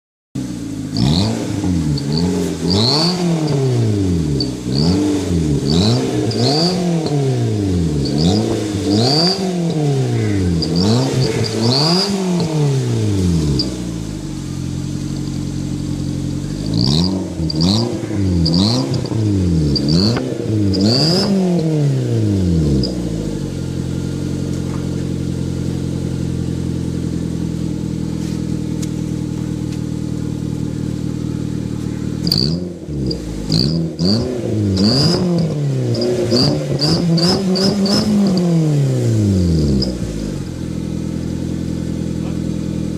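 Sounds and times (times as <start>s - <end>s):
car engine revving and idling: 0.4s - 42.9s.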